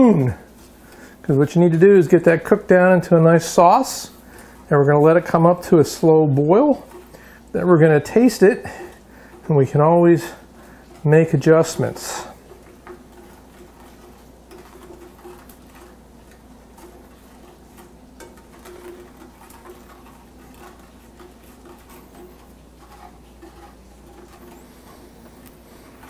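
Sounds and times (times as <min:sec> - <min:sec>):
spoon scraping sticky sauce in pan: 0:00.0 - 0:26.0.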